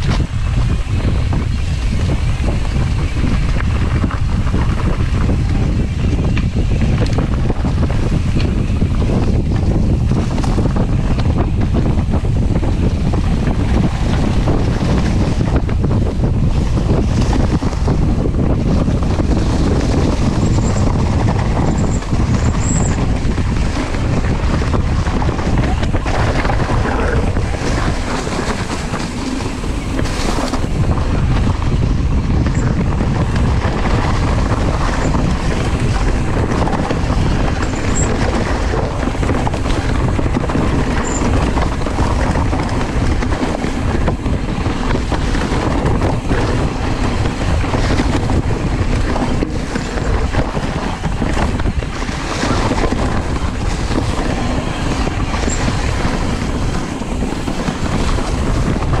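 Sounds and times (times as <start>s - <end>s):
mountain bike rolling and rattling: 0.0s - 59.0s
tires on dry leaves: 0.0s - 59.0s
wind buffeting microphone: 0.0s - 59.0s.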